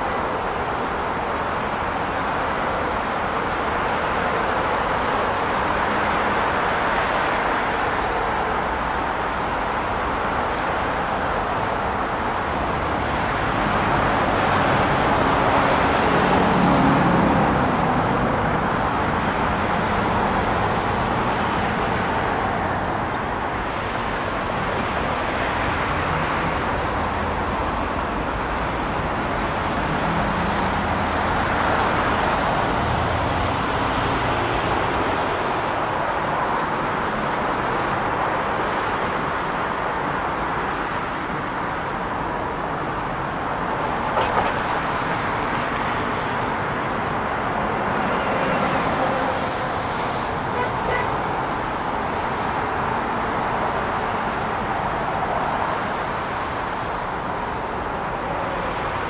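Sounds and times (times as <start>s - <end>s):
dense expressway traffic roar: 0.0s - 59.0s
heavy vehicles humming: 0.0s - 59.0s.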